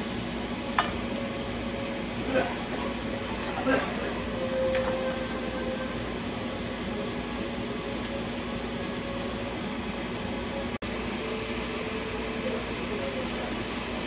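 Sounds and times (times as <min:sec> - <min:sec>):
mechanical hum with hiss: 0:00.0 - 0:14.0.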